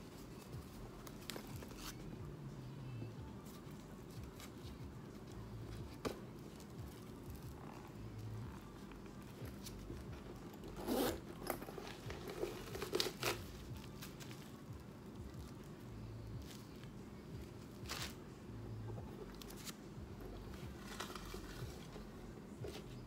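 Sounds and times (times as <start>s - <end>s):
leather bag and tissue paper rustling: 0.0s - 2.2s, 3.3s - 18.3s, 19.1s - 23.0s.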